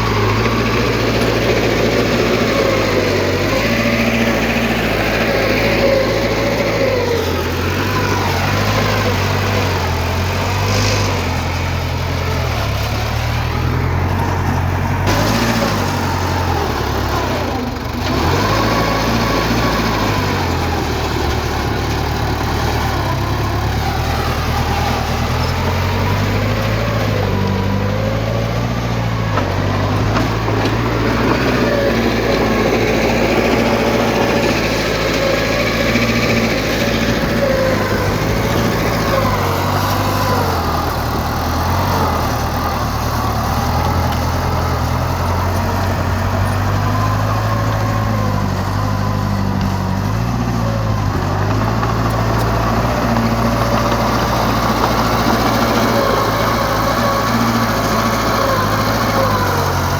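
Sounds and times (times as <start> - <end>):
heavy machinery diesel engine revving: 0.0 - 59.9.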